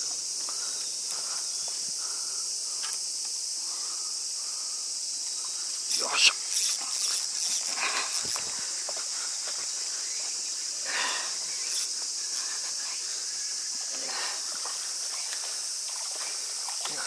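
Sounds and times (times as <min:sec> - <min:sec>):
insects chirping chorus: 0:00.0 - 0:17.0.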